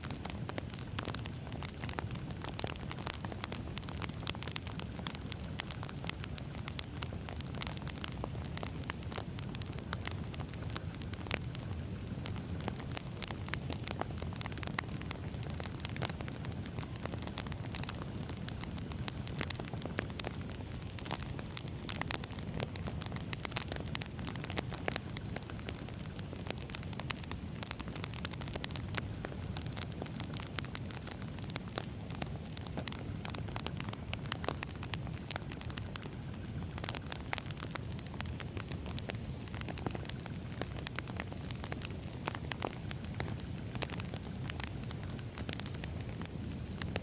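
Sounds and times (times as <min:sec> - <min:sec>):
fire crackles and pops: 0:00.0 - 0:47.0
low rumble of flames: 0:00.0 - 0:47.0.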